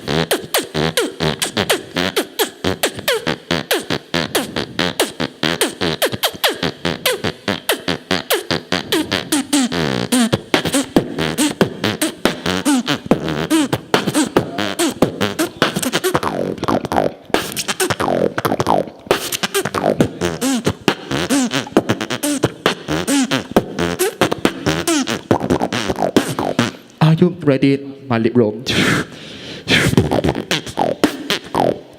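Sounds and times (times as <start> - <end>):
person beatboxing: 0.0 - 27.2, 28.6 - 31.9.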